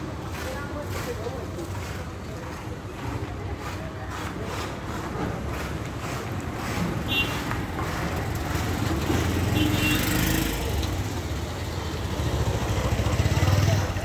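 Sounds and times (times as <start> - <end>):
outdoor background noise: 0.0 - 14.0
vehicle engine running nearby: 0.0 - 14.0.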